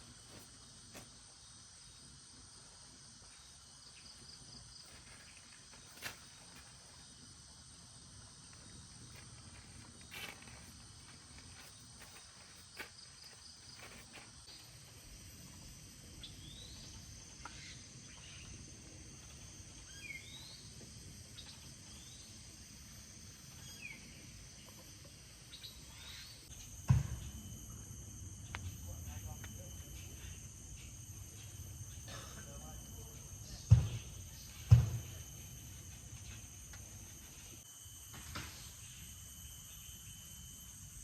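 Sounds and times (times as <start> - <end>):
chorus of insects: 0.0 - 41.0.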